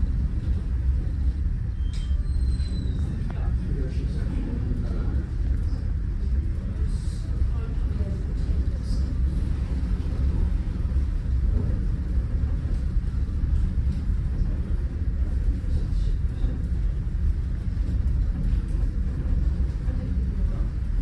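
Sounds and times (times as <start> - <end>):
ship engine low rumble: 0.0 - 21.0.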